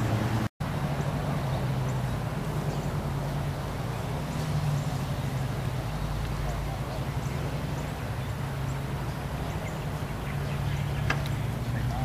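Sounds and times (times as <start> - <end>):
low engine hum: 0.0 - 12.0
outdoor background noise: 0.0 - 12.0.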